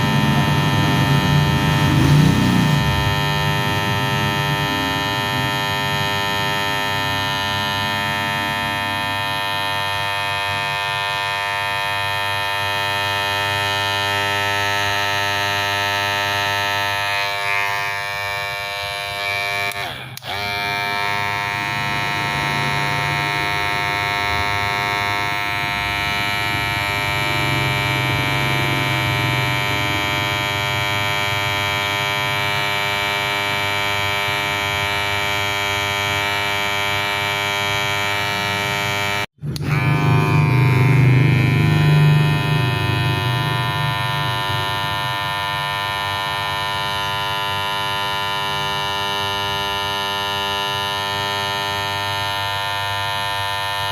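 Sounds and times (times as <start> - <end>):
electric hair clipper buzzing: 0.0 - 53.9.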